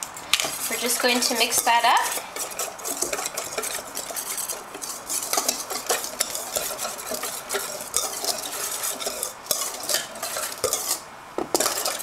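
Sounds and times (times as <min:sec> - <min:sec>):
metal whisk scraping steel bowl: 0:00.0 - 0:12.0.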